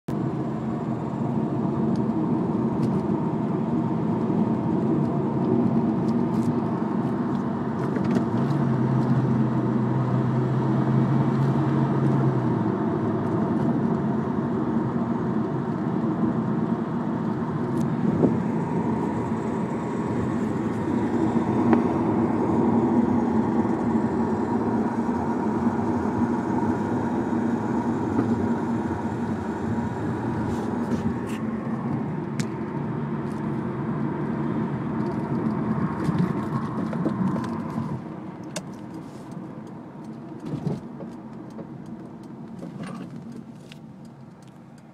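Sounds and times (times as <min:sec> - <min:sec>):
car engine and road noise: 0:00.1 - 0:44.9.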